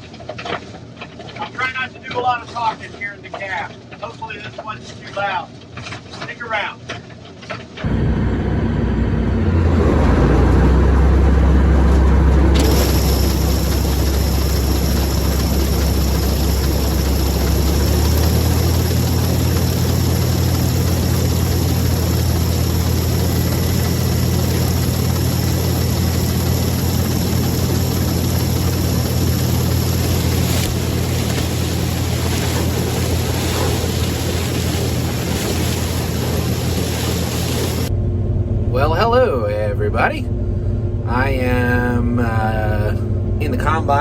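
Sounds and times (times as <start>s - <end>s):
combine harvester engine drone: 7.8s - 44.0s.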